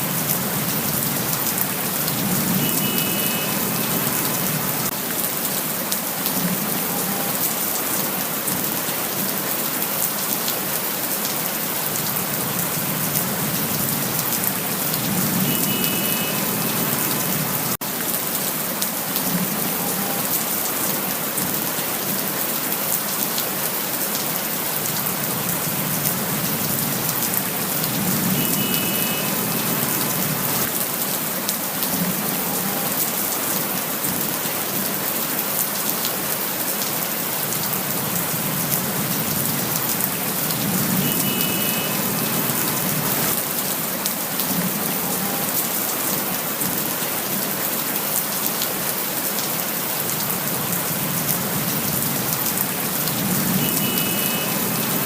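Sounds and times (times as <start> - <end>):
raindrops ticking close by: 0.0 - 55.0
steady rain falling: 0.0 - 55.0.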